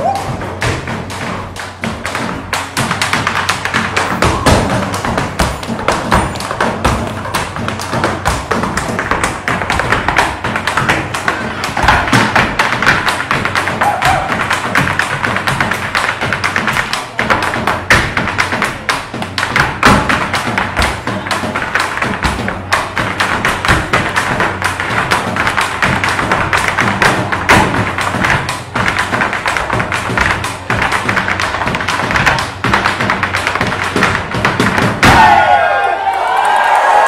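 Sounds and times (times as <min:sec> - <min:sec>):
music with a drum beat: 0:00.0 - 0:35.3
hard shoes tapping on a stage: 0:00.0 - 0:37.0.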